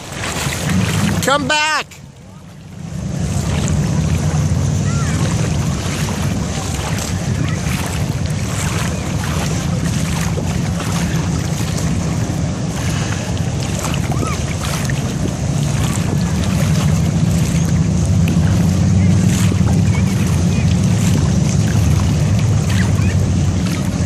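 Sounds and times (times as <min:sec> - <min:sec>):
distant surf breaking: 0:00.0 - 0:24.0
shallow seawater washing: 0:00.0 - 0:24.0
wind buffeting microphone: 0:02.2 - 0:24.0.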